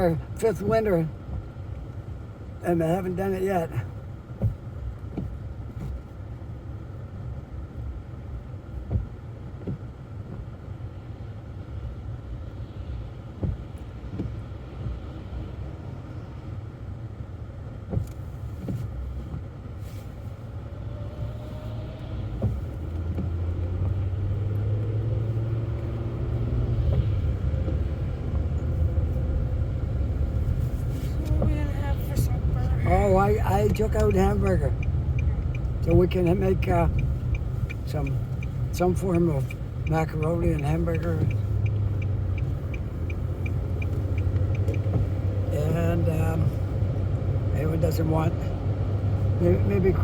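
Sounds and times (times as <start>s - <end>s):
car engine and tyres rumbling: 0.0s - 50.0s.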